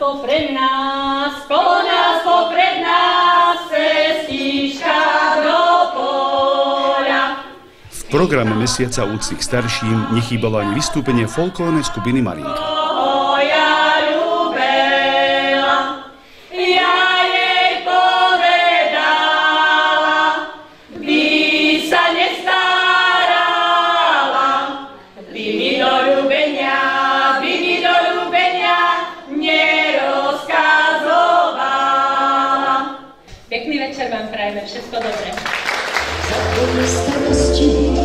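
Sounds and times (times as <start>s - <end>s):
women singing a cappella: 0.0s - 34.1s, 36.2s - 38.0s.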